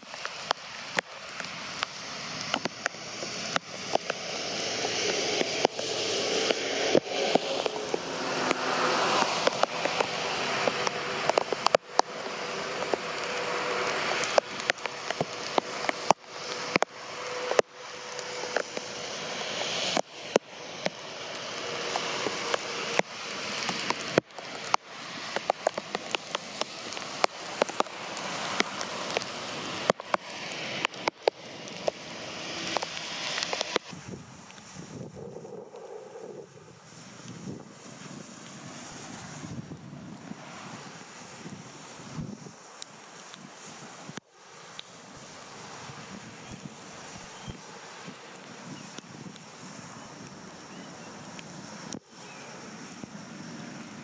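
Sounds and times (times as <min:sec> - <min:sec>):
heavy rain pouring: 0:00.0 - 0:54.0
large raindrops tapping: 0:00.0 - 0:54.0.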